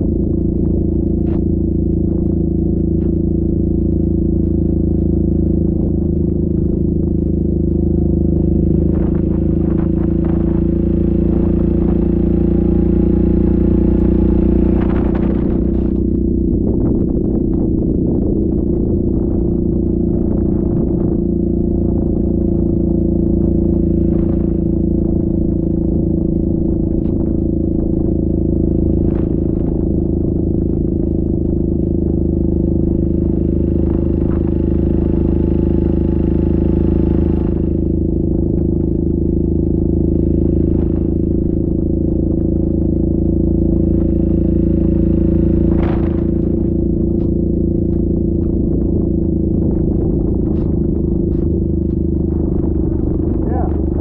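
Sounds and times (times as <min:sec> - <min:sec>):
atv engine droning: 0:00.0 - 0:54.0.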